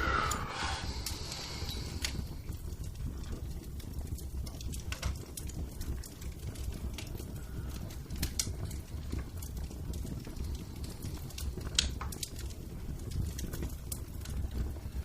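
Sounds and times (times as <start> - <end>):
low rumble of fire: 0.0 - 15.0
wood fire crackling and popping: 0.0 - 15.0.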